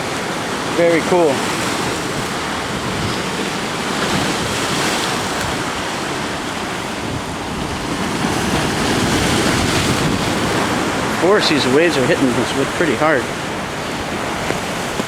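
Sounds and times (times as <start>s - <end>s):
ocean surf breaking over rocks: 0.0s - 15.0s
wind buffeting microphone: 0.0s - 15.0s.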